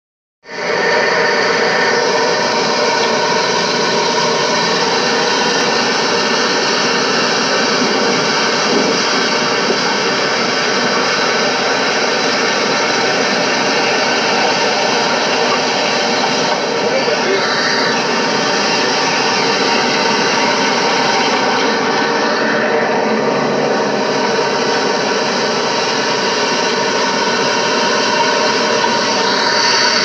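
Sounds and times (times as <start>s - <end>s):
loud rushing noise: 0.5s - 30.0s.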